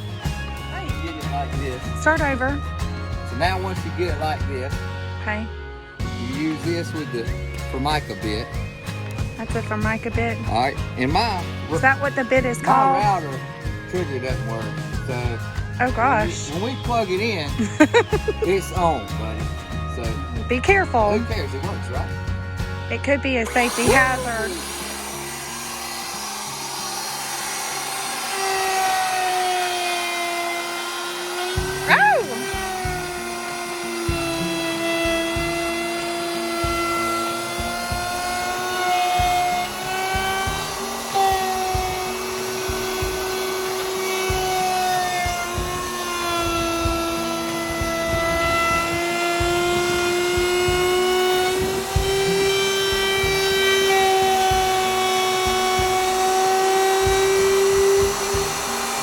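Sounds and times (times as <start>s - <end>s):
electric router whining: 0.0s - 59.0s.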